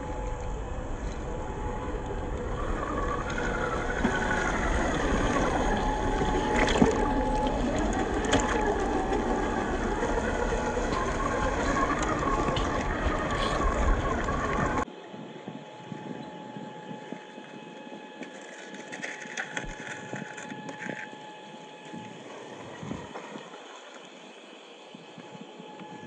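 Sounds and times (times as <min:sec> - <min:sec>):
electric motor and gears whining: 0:00.0 - 0:26.0.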